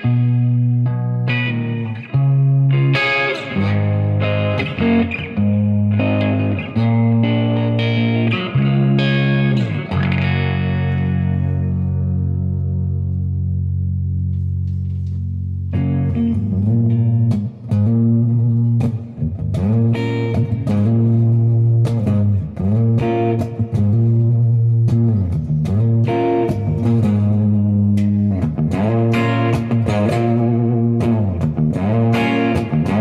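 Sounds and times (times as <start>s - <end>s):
overdriven electric guitar: 0.0s - 33.0s.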